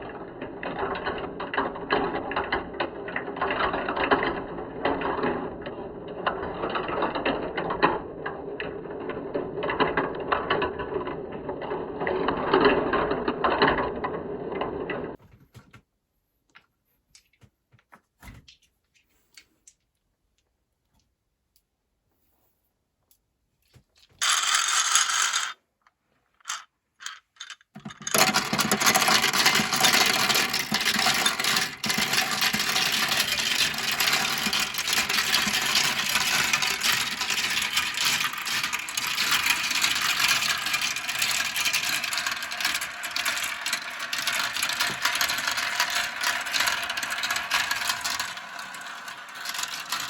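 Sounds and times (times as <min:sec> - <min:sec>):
marbles rattling down plastic run: 0:00.0 - 0:15.2, 0:24.2 - 0:25.6, 0:26.4 - 0:50.0.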